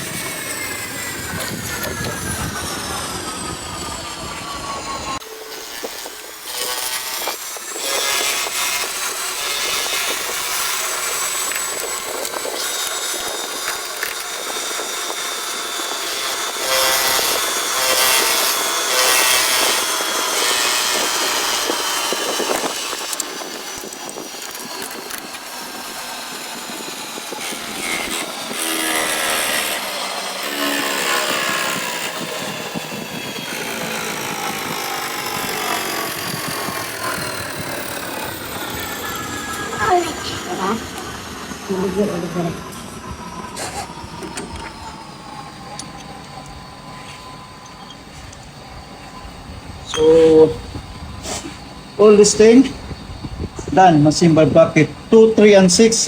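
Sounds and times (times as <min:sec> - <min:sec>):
machine tool cutting metal whine: 0:00.0 - 0:56.0.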